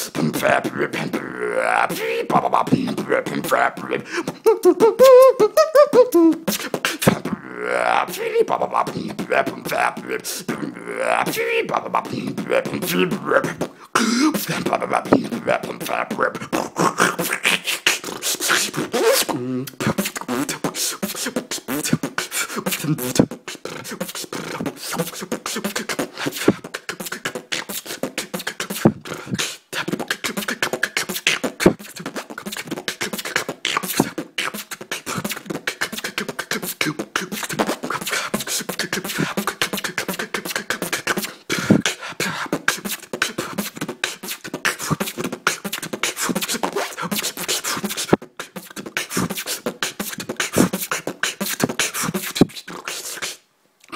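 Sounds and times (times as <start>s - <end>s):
beatboxing: 0.0s - 53.9s.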